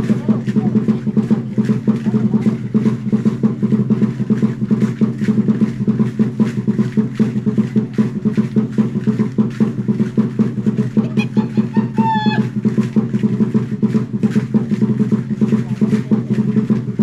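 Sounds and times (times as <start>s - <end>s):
quick steady drumbeat: 0.0s - 17.0s.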